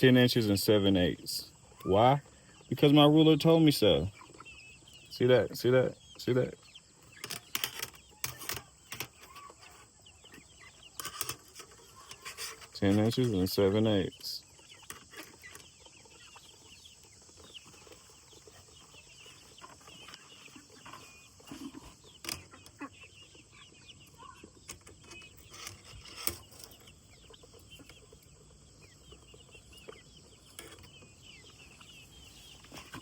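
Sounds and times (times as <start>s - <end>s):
chickens clucking and chirping: 0.0s - 33.0s.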